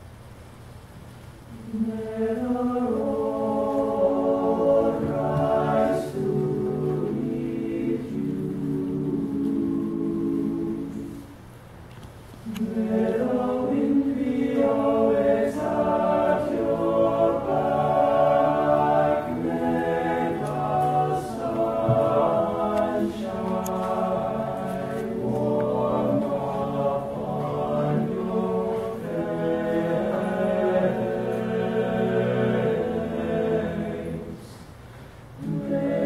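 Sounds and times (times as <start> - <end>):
male group singing in harmony: 1.6 - 11.3, 12.4 - 34.7, 35.4 - 36.0.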